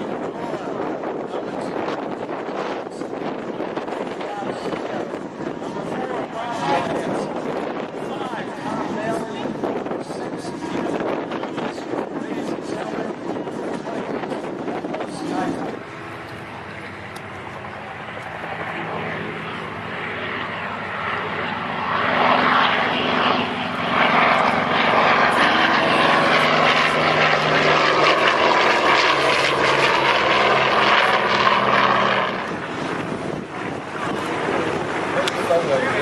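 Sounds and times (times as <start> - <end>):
propeller airplane engine overhead: 0.0 - 36.0.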